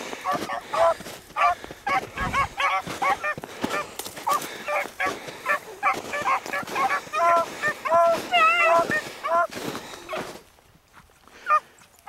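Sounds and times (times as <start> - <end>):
hounds baying: 0.0 - 10.4, 11.3 - 12.0.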